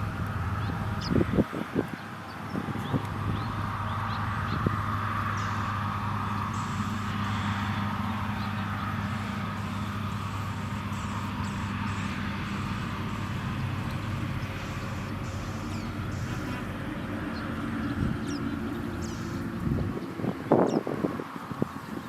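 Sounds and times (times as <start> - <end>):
low motor drone: 0.0 - 22.0
small birds chirping: 0.5 - 22.0.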